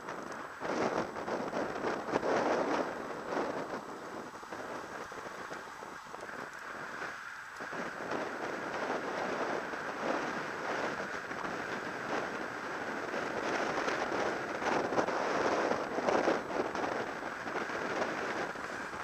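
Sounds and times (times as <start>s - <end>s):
bike tyres hissing on tarmac: 0.0s - 19.0s
crackles from road vibration: 0.0s - 19.0s
wind on microphone: 0.0s - 19.0s.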